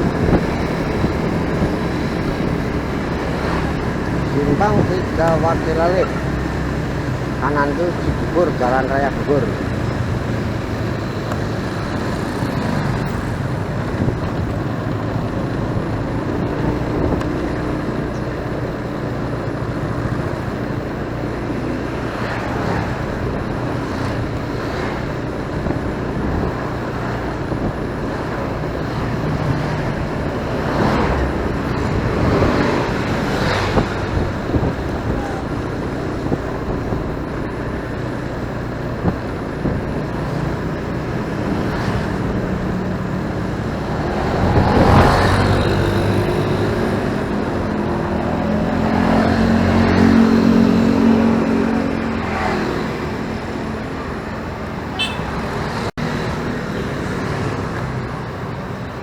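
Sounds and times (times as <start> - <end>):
motorcycle engine running: 0.0 - 59.0
passing traffic: 0.0 - 59.0
road and wind noise: 0.0 - 59.0.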